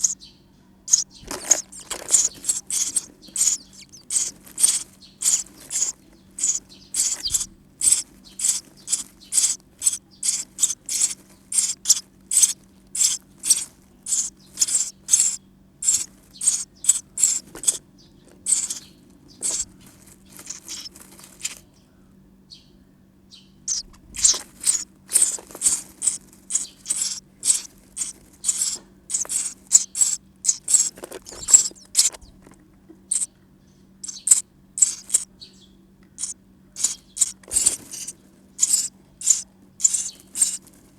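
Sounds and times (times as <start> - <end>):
nestlings cheeping: 0.0 - 21.8, 23.6 - 33.3, 34.0 - 40.9.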